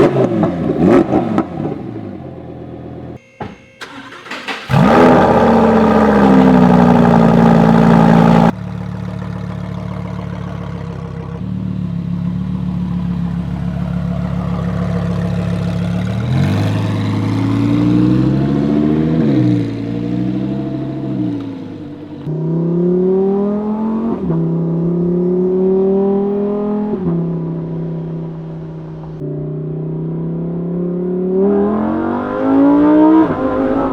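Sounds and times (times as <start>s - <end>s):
sports car engine idling and revving: 0.0s - 3.2s, 3.8s - 33.9s.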